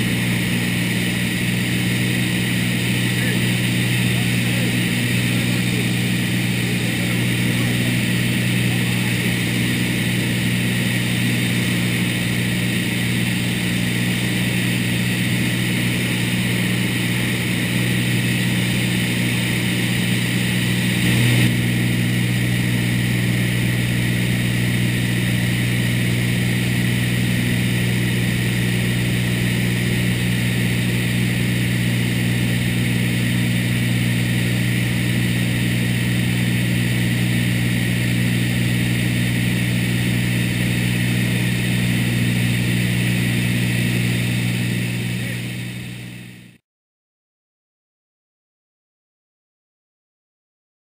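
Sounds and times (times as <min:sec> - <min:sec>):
light aircraft engine and propeller: 0:00.0 - 0:46.6.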